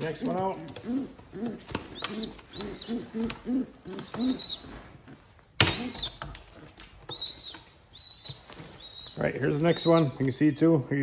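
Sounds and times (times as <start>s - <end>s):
pigeons cooing: 0.0s - 10.3s
young pigeons peeping: 0.0s - 11.0s.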